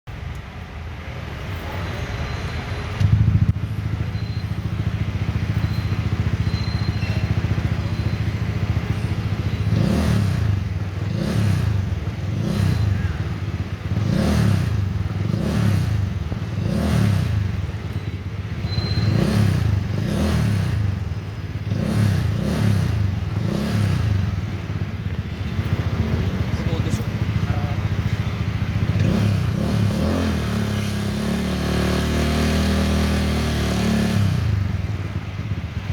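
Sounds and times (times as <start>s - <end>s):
scooter engine revving: 2.9s - 35.9s.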